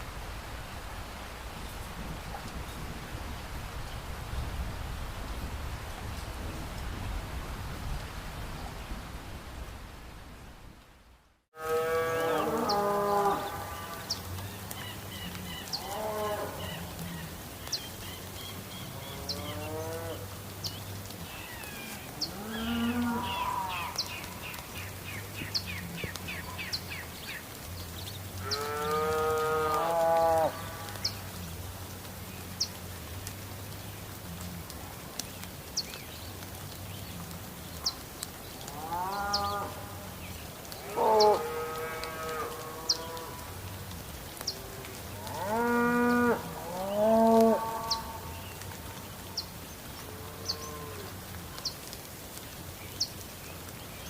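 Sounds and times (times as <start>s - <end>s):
rain: 0.0s - 54.0s.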